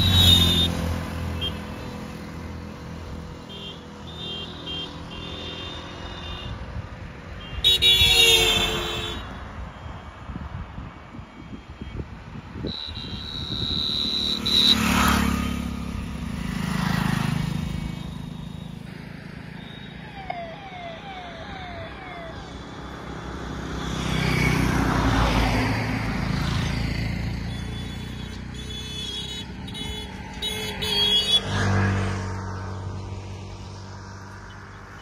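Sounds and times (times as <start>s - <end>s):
vehicles passing on road: 0.0s - 35.0s.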